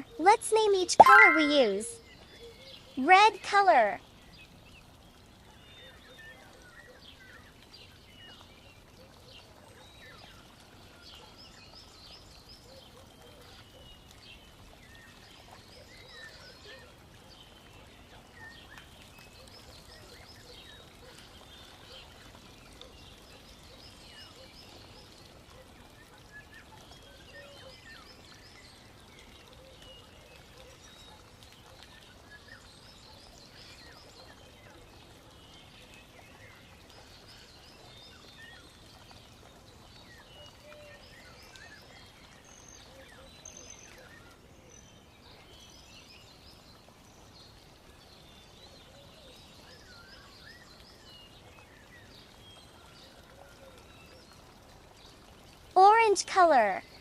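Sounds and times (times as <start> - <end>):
low steady background noise: 0.0 - 57.0.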